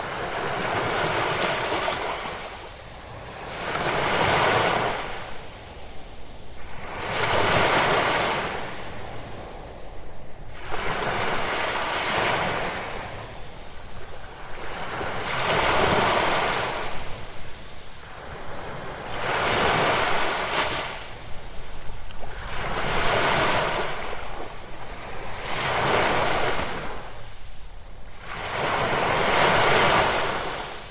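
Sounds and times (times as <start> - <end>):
ocean waves breaking on shore: 0.0 - 30.9.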